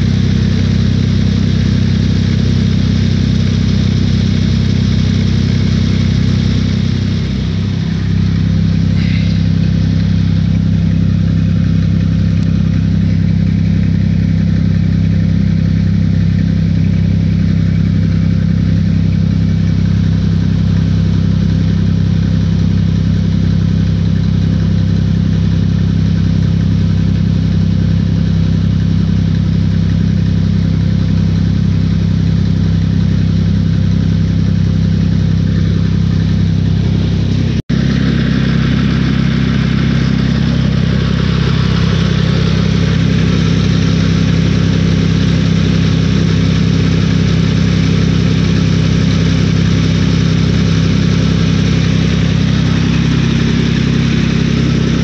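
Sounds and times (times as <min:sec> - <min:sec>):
motor running steadily: 0:00.0 - 0:55.0.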